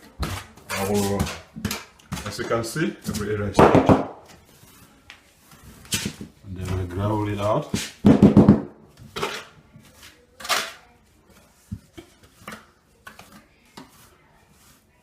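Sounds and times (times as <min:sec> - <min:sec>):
trowel scraping and tapping mortar: 0:00.0 - 0:04.4, 0:05.8 - 0:14.9.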